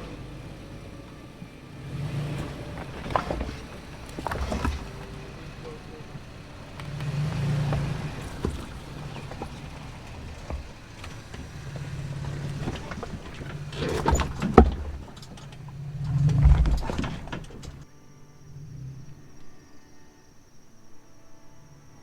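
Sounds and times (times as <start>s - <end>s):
pickup truck engine off-road: 0.0s - 17.9s
truck jolting knocks: 0.0s - 17.9s.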